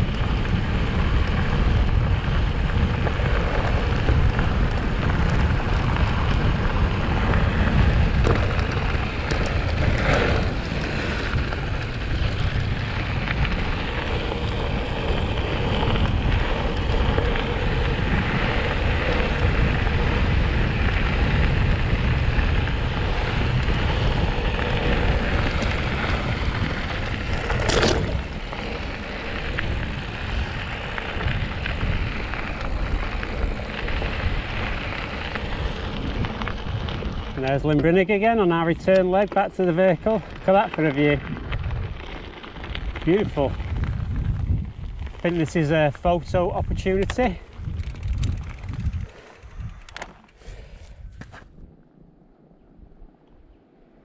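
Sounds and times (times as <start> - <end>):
bike tyres on gravel: 0.0 - 54.0
wind noise on microphone: 0.0 - 54.0.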